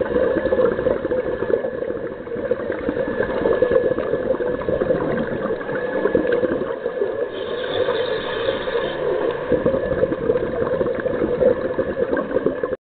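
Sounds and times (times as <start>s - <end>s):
underwater bubbling: 0.0s - 12.8s.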